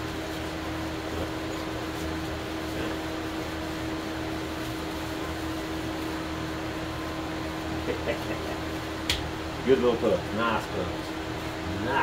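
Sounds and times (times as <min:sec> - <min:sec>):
fan whooshing and humming: 0:00.0 - 0:12.0.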